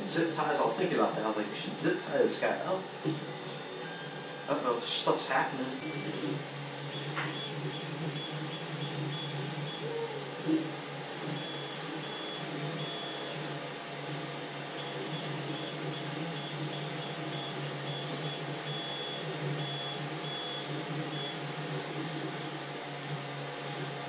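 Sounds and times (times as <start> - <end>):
cooling fans humming: 0.0 - 24.0
stepper motors whining: 0.0 - 24.0.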